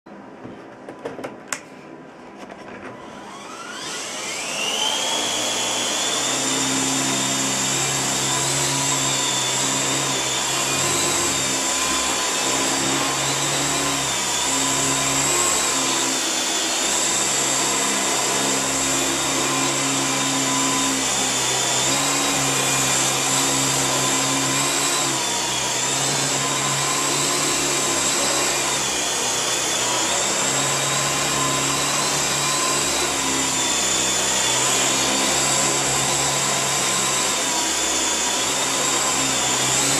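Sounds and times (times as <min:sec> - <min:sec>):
rc helicopter motor whine: 0:03.1 - 0:39.9.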